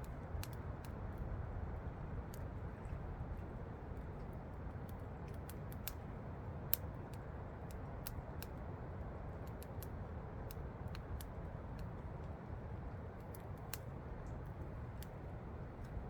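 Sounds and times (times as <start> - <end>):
wood campfire crackling: 0.0 - 16.0.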